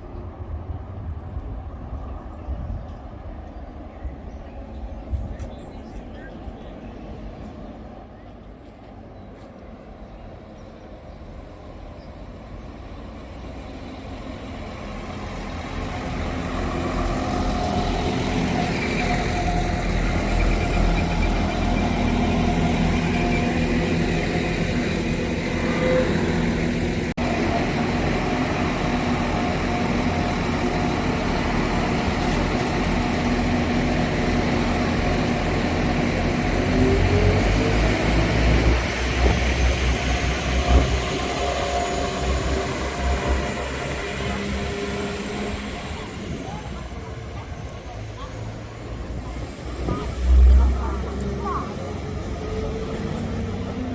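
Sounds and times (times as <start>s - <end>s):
diesel train engine rumbling: 0.0s - 53.9s.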